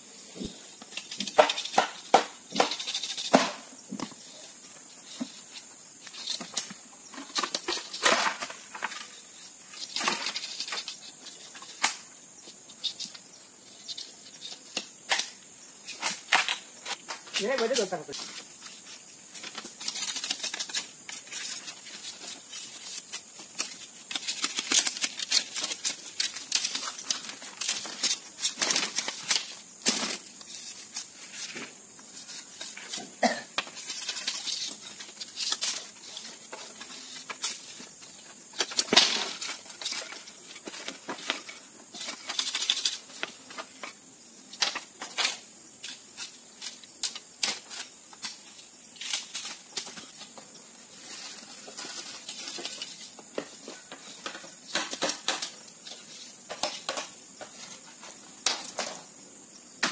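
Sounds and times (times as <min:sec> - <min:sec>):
bamboo strips clicking and cracking: 0:00.8 - 0:04.4, 0:05.0 - 0:13.2, 0:13.8 - 0:59.1.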